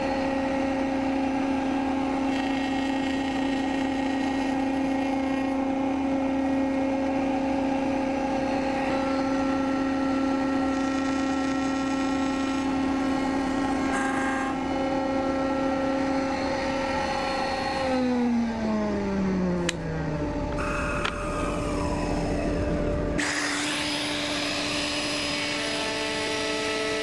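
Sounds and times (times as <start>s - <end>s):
electric motor running: 0.0s - 27.0s.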